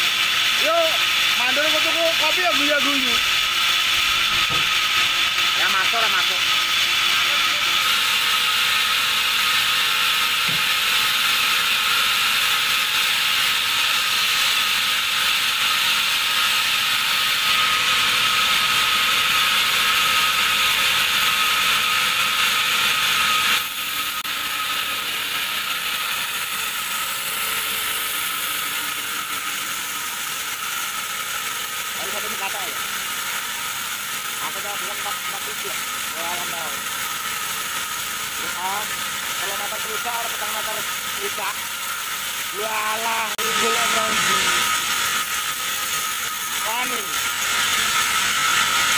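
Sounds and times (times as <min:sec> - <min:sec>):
band saw cutting log: 0:00.0 - 0:48.9.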